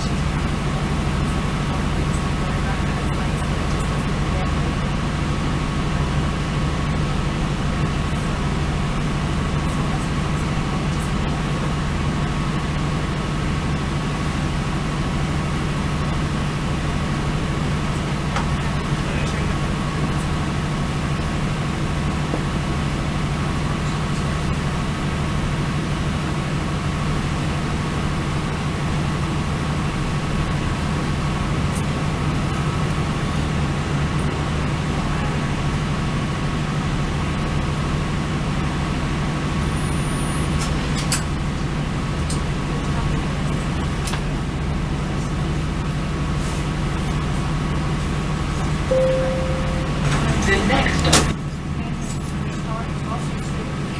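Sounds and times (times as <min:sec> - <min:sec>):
diesel train running drone: 0:00.0 - 0:39.6, 0:40.9 - 0:53.9.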